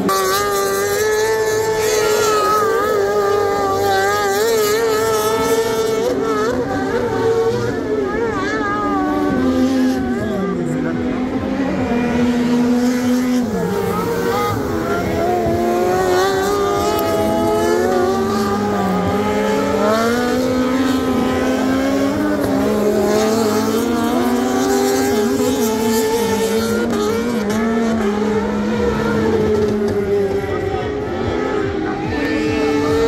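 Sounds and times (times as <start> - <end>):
racing buggy engines accelerating: 0.0 - 33.0.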